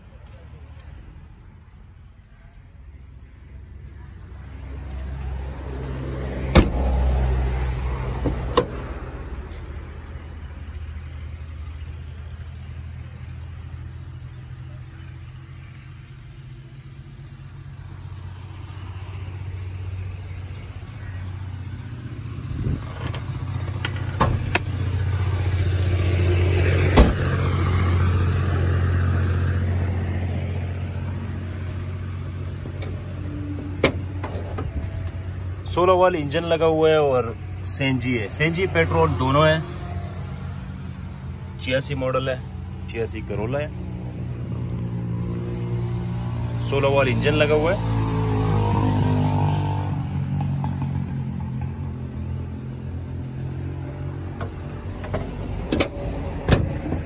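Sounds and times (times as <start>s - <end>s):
traffic engine hum: 0.0s - 57.0s.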